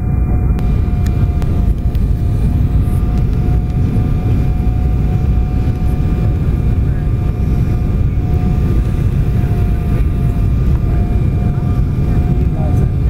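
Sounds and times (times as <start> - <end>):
airflow past fuselage: 0.0 - 13.0
jet engines low rumble: 0.0 - 13.0.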